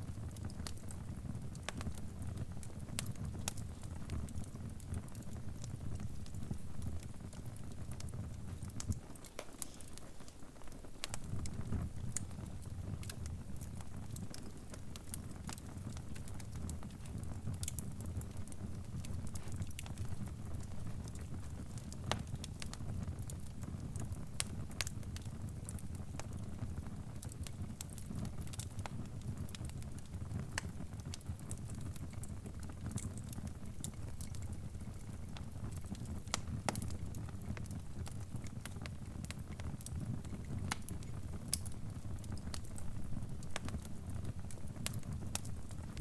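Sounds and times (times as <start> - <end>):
fire popping and snapping: 0.0 - 46.0
wood fire rumble: 0.0 - 46.0.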